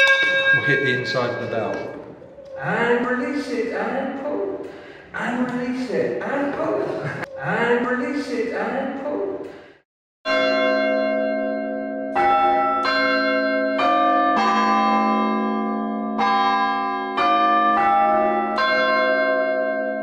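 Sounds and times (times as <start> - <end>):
church bells ringing: 0.0 - 7.3, 10.3 - 20.0.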